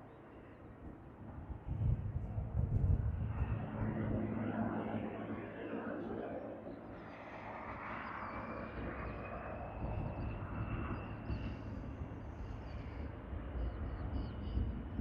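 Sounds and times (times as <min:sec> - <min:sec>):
distant jet engines whining: 0:00.0 - 0:15.0.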